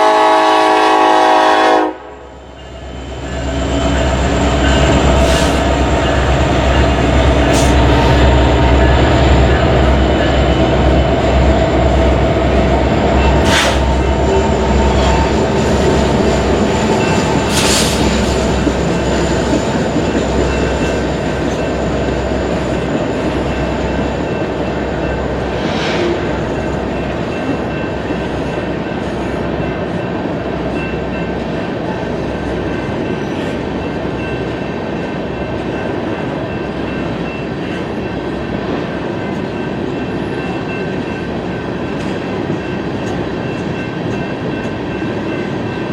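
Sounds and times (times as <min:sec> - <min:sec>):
train cars rolling on rails: 0:02.4 - 0:45.9.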